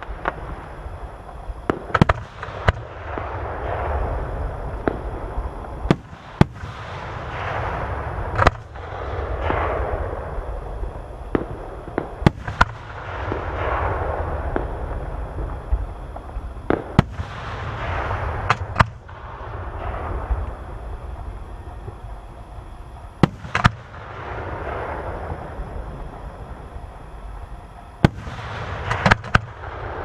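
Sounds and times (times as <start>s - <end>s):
constant low rumble: 0.0s - 30.0s
firework crackling and hissing: 0.0s - 30.0s
firework shells booming: 0.0s - 30.0s.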